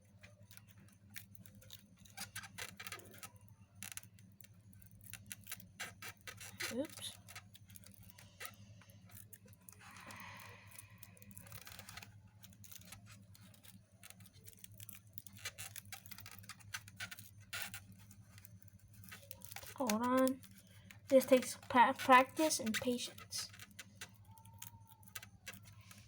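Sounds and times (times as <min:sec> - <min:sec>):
small clicks and taps: 0:00.0 - 0:26.0.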